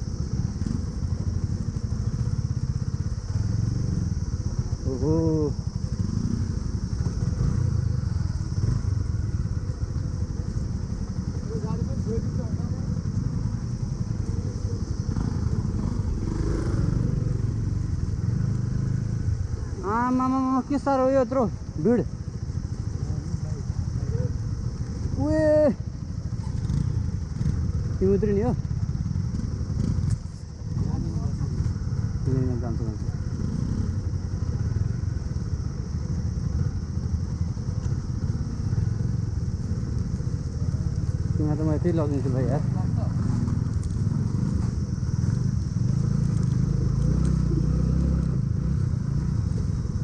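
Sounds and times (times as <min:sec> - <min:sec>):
motorcycle engine rumbling: 0:00.0 - 0:50.0.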